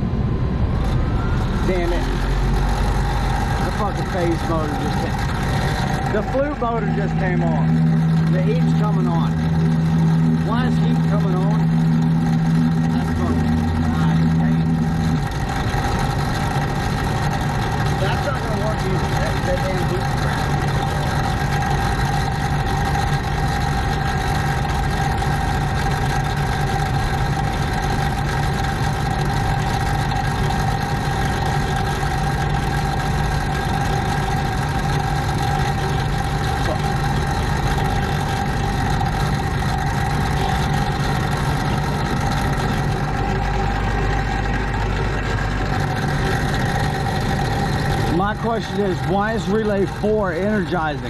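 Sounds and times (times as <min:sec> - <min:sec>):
rooftop air conditioner droning: 0:00.0 - 0:51.0.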